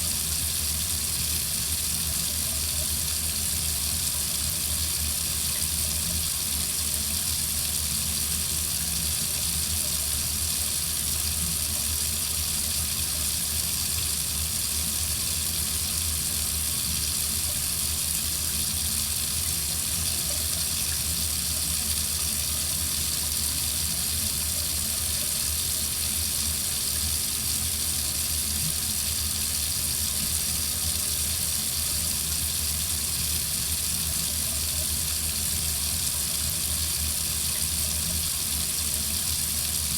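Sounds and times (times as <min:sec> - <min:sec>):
water running from faucet: 0:00.0 - 0:39.9.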